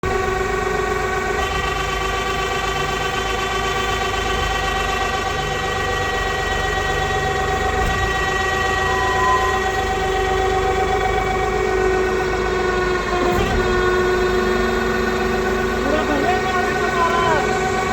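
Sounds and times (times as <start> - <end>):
baling machine whine: 0.0 - 17.9
low machine rumble: 0.0 - 17.9.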